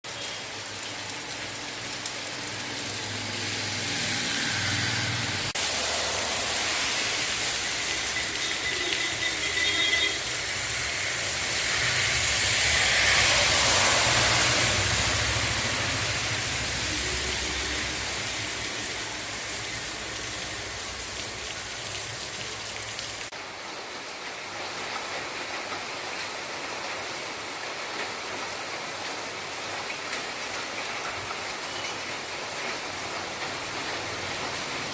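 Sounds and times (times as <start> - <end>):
heavy rain hissing: 0.1 - 34.9.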